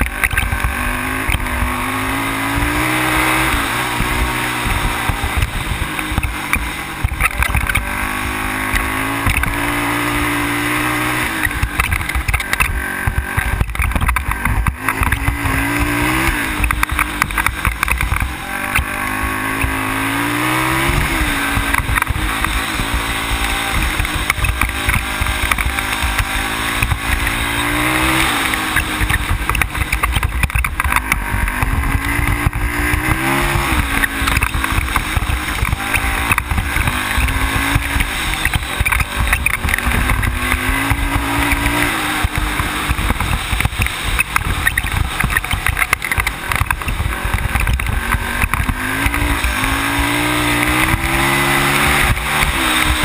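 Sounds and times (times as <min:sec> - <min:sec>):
atv engine revving: 0:00.0 - 0:53.0
knocks and rattles: 0:00.0 - 0:53.0
wind and road rumble: 0:00.0 - 0:53.0.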